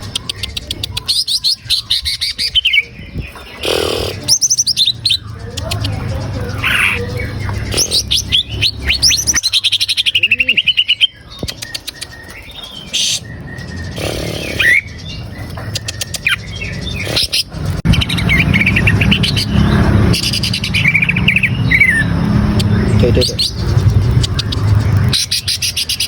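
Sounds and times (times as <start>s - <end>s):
bird singing fast trills: 0.0s - 26.0s.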